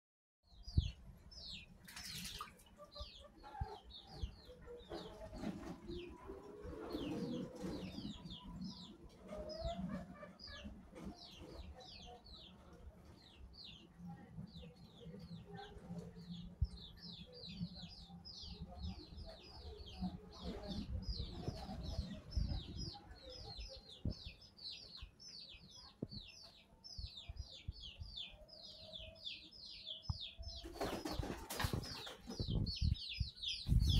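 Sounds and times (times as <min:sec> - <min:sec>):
small birds chirping rapidly: 0:00.5 - 0:33.9.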